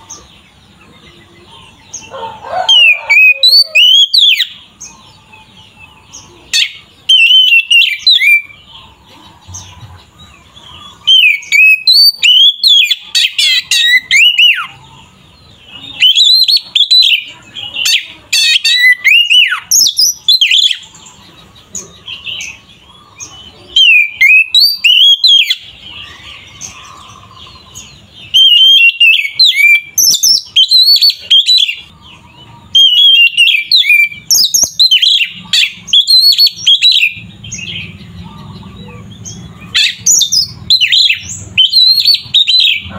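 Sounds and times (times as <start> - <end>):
magpie-robin singing: 0.0 - 42.9.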